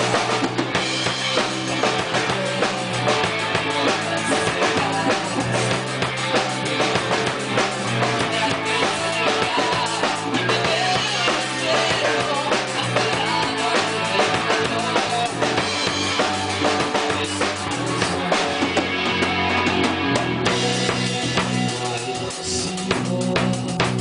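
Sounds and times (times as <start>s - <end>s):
drum kit beat: 0.0s - 24.0s.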